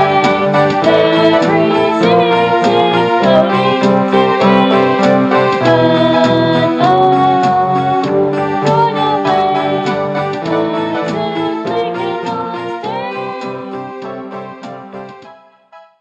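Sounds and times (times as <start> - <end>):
steady percussive beat: 0.0 - 15.3
electronic keyboard song: 0.0 - 16.0.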